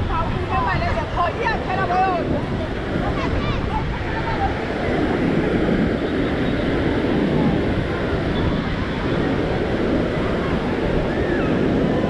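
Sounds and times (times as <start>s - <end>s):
faint voices of people: 0.0s - 12.0s
ocean surf breaking on sand: 0.0s - 12.0s
wind buffeting microphone: 0.0s - 12.0s.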